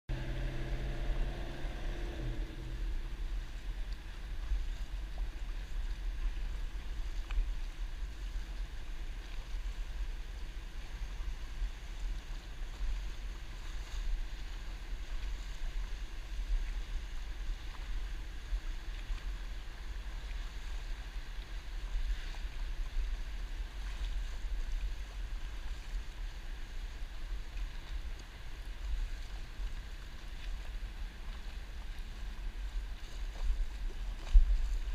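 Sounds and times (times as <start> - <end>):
boat engine: 0.1 - 34.9
water lapping and splashing: 0.1 - 34.9
wind rumbling on microphone: 0.1 - 34.9.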